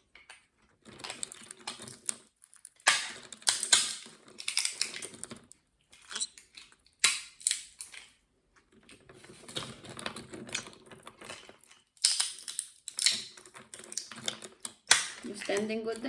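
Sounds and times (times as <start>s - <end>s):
walnut shells cracking: 0.2s - 8.2s, 9.9s - 15.8s.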